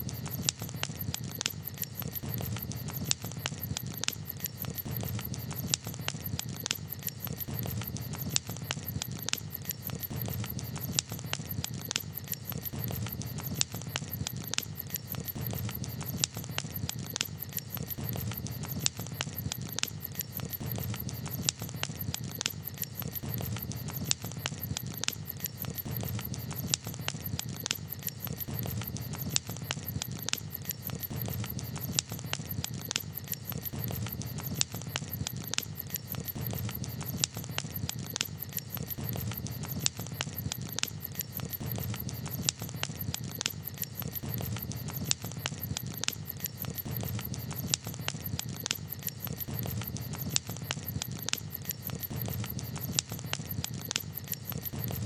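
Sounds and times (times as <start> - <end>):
campfire pops and snaps: 0.0 - 55.0.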